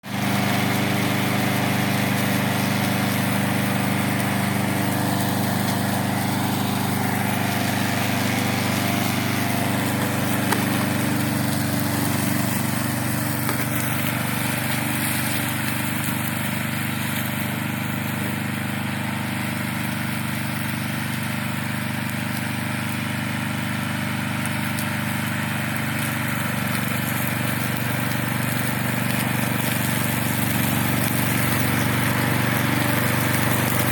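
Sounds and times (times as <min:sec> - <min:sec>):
mower engine running: 0:00.0 - 0:33.9.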